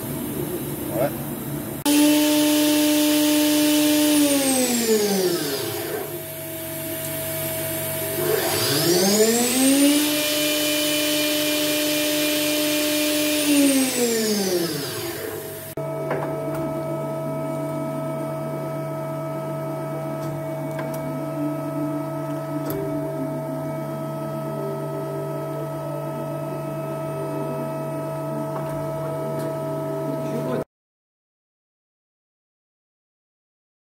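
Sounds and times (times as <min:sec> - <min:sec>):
steady machine hum: 0:00.0 - 0:30.6
machine spindle whining: 0:01.9 - 0:30.5.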